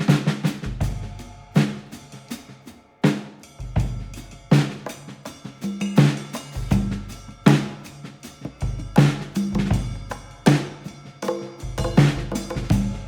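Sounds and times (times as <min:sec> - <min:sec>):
drum kit beat: 0:00.0 - 0:13.0.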